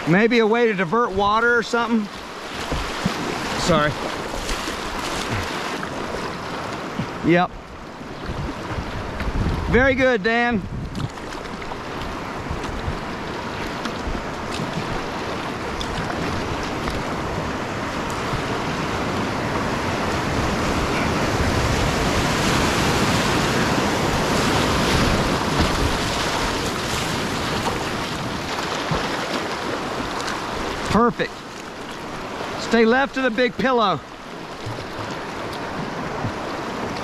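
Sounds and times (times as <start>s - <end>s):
whitewater rapids rushing: 0.0s - 37.0s.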